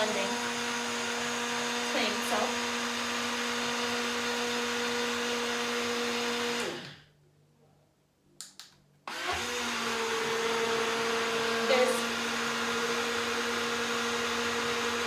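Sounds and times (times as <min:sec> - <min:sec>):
blender motor whine: 0:00.0 - 0:07.1, 0:09.1 - 0:15.0.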